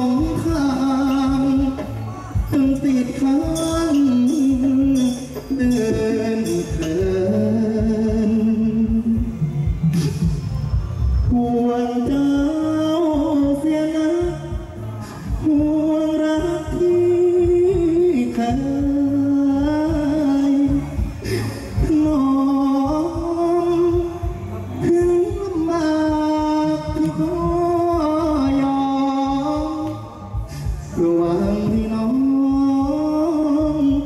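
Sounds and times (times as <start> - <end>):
instrumental accompaniment with low beat: 0.0 - 34.0
person singing through pa: 0.0 - 34.0.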